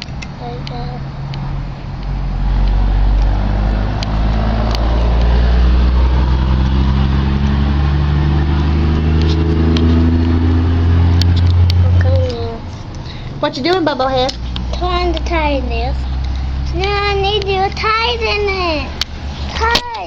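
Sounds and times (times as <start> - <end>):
low engine hum: 0.0 - 19.7.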